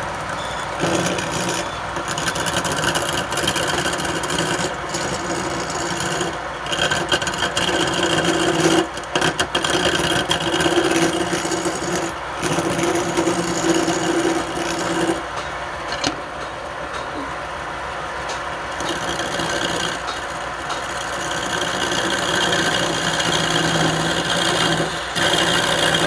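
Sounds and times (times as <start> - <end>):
wood lathe tool scraping: 0.0 - 16.1, 18.3 - 26.0.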